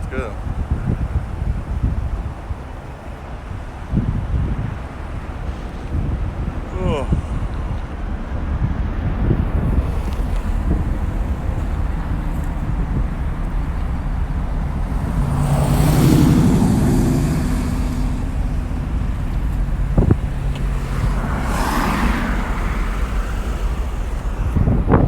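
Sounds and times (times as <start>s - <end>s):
low traffic rumble: 0.0s - 25.0s
vehicle passing: 0.0s - 25.0s.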